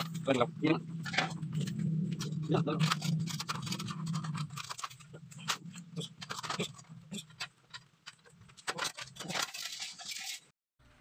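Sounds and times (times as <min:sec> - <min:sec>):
wire clicking and scratching on frame: 0:01.0 - 0:10.5.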